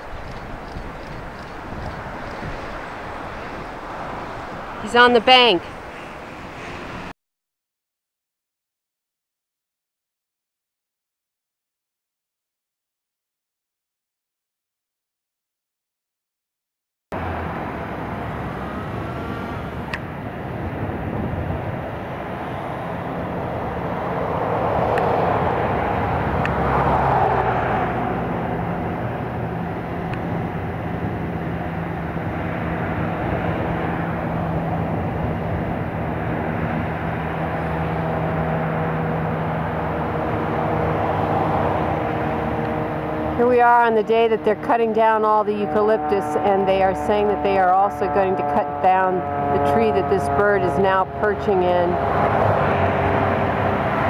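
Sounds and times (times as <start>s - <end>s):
engine noise: 0.0s - 7.1s, 17.2s - 54.0s.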